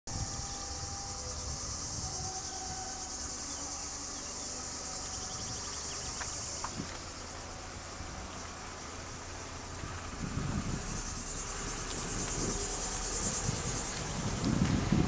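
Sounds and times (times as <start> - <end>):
cicadas buzzing: 0.1 - 15.0
low rumble: 0.1 - 15.0.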